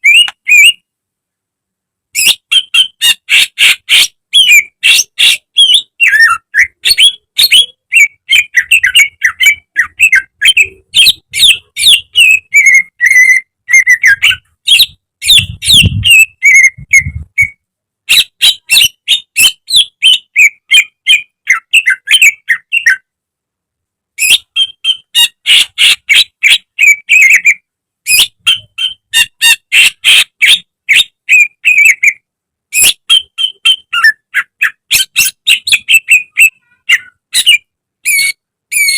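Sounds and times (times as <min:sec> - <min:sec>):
bird singing chattering song: 0:00.0 - 0:00.8, 0:02.2 - 0:23.1, 0:24.2 - 0:38.9.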